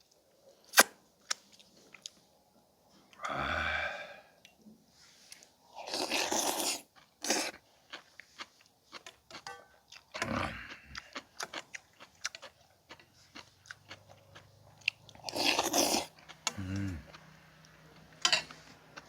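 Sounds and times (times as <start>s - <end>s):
person chewing food: 0.6s - 2.2s, 5.3s - 19.0s.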